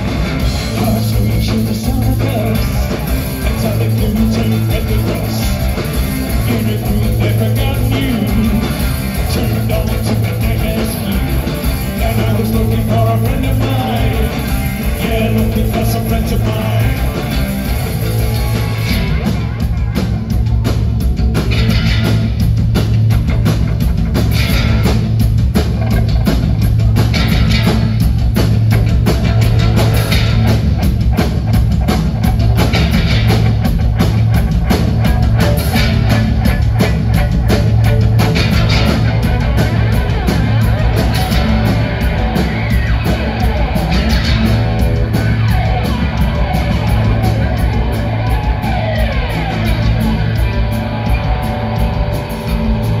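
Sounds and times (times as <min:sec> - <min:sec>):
heavy bass line: 0:00.0 - 0:53.0
live rock band playing: 0:00.0 - 0:53.0.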